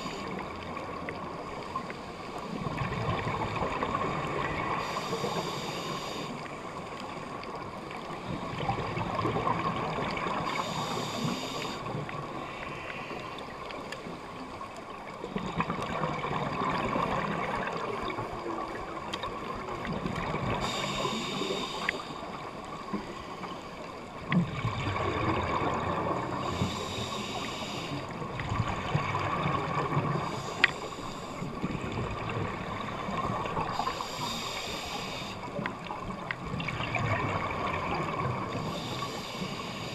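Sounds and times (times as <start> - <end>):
steady underwater hum: 0.0 - 39.9.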